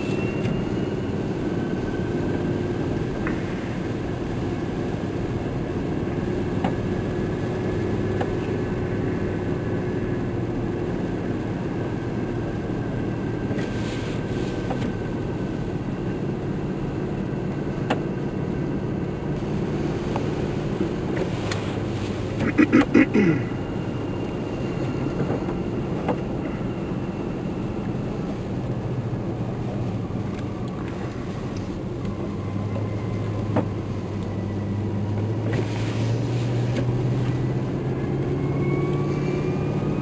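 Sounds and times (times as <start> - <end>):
car engine and tyres droning: 0.0 - 40.0.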